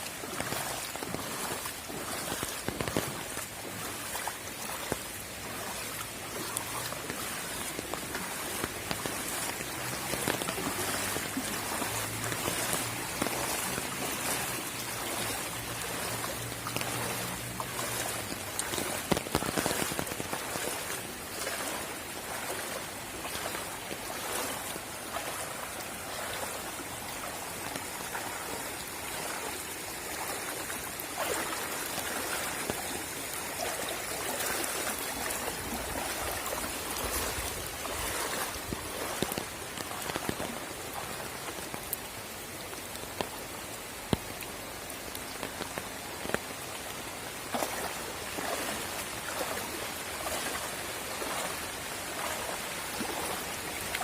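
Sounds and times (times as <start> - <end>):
raindrops ticking on surfaces: 0.0 - 54.0
steady rain falling: 0.0 - 54.0.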